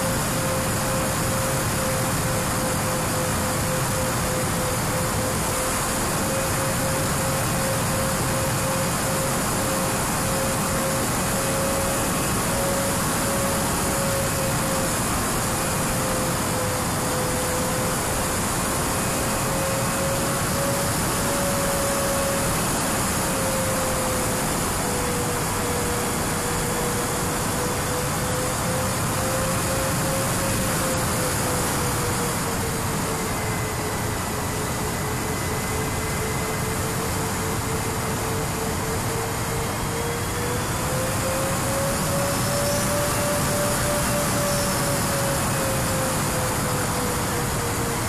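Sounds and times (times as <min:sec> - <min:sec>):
electric motor and propeller whine: 0:00.0 - 0:48.0.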